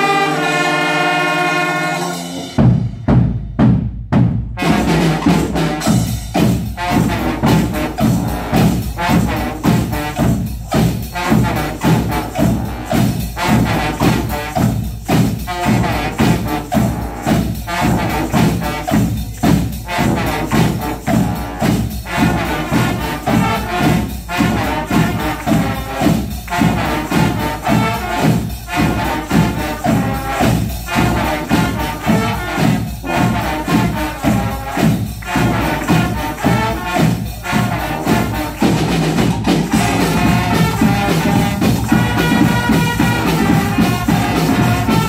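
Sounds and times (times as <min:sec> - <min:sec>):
brass band playing: 0:00.0 - 0:45.0
bass drum beat: 0:02.6 - 0:45.0.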